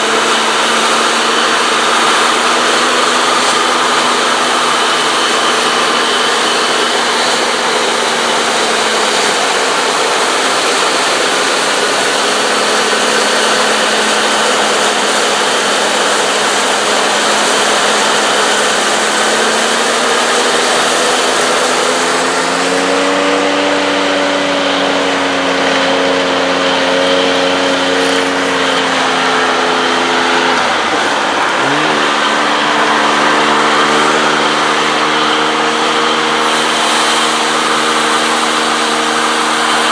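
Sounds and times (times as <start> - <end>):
diesel engines under load: 0.0 - 39.9.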